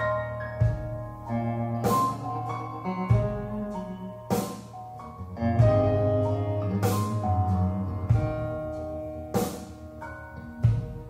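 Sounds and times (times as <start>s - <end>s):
guitar and keyboard notes: 0.0s - 11.0s.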